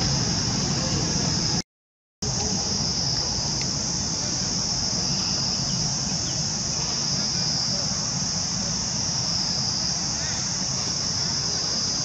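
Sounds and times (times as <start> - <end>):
high-pitched insect chorus: 2.2 - 12.0.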